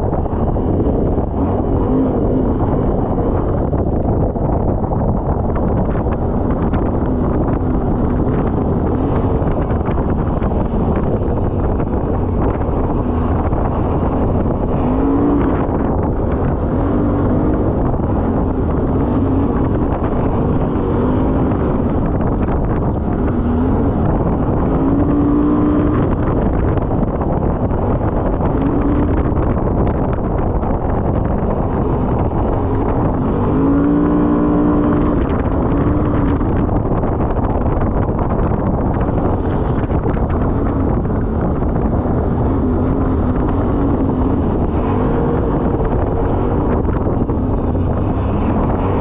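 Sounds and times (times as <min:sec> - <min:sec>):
atv engine running: 0:00.0 - 0:49.0
wind buffeting microphone: 0:00.0 - 0:49.0.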